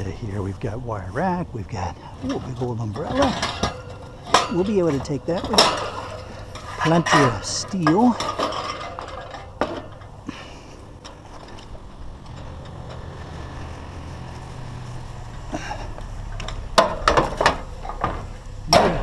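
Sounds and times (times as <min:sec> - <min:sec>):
low steady rumble: 0:00.0 - 0:19.0
scrap metal clanking: 0:00.0 - 0:19.0.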